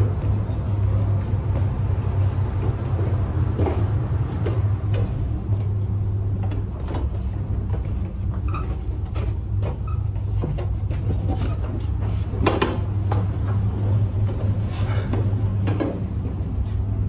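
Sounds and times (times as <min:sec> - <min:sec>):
footsteps on wooden stairs: 0:00.0 - 0:17.0.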